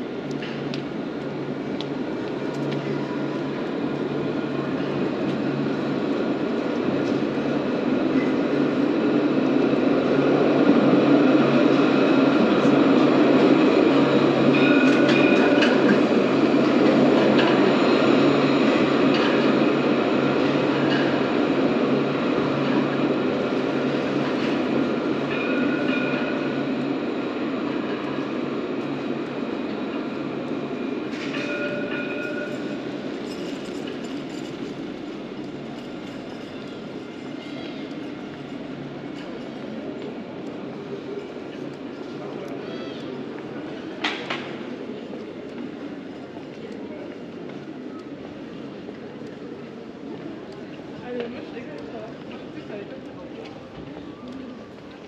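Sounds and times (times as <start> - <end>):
tram rolling past: 0.0 - 55.0.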